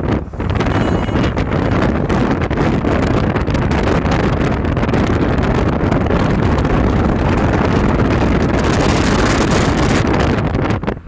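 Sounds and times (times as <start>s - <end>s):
car road and engine noise: 0.0s - 11.0s
wind buffeting microphone: 0.0s - 11.0s.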